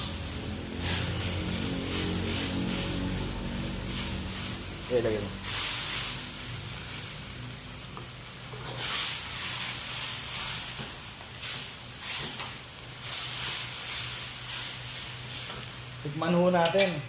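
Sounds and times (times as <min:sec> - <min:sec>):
sauce sizzling in a wok: 0:00.0 - 0:17.0.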